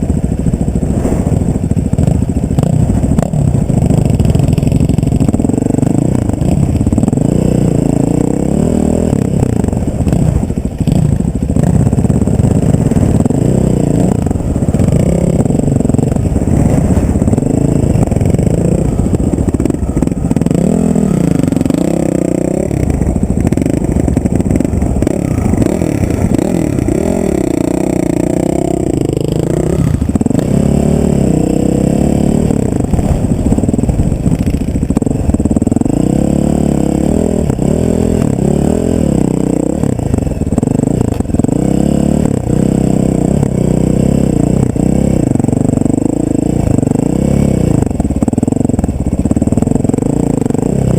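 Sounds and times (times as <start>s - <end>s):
vehicle engine rumbling: 0.0s - 50.9s.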